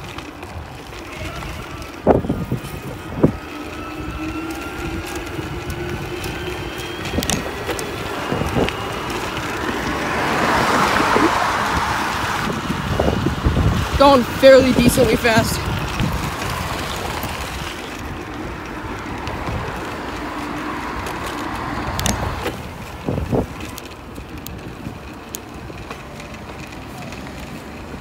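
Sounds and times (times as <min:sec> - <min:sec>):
tyres humming on pavement: 0:00.0 - 0:28.0
wind rushing over microphone: 0:00.0 - 0:28.0.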